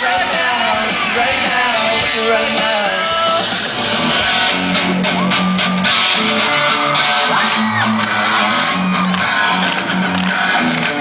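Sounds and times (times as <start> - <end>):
bass: 0.0 - 11.0
strummed guitar: 0.0 - 11.0.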